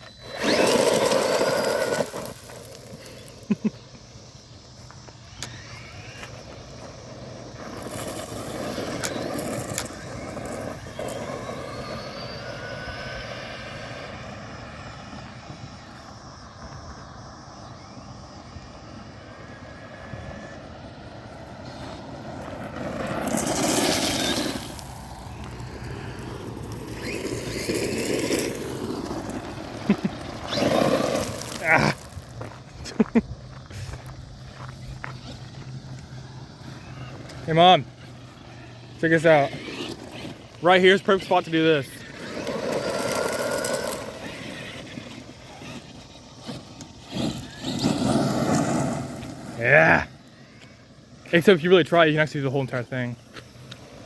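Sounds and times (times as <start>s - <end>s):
electric motor whining: 0.0s - 3.6s, 4.7s - 16.2s, 19.1s - 32.5s, 33.7s - 50.9s
tyre and ground noise: 0.0s - 54.0s.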